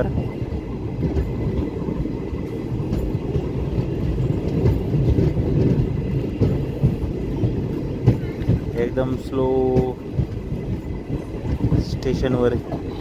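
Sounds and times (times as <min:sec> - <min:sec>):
train rumbling over rails: 0:00.0 - 0:13.0.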